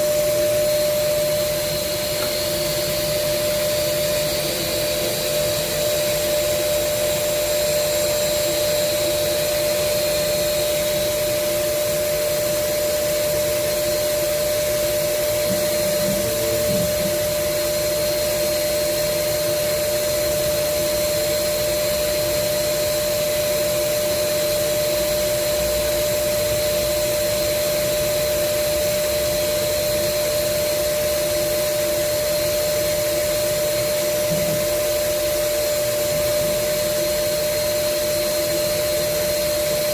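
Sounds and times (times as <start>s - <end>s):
grinder motor whine and hiss: 0.0s - 39.9s.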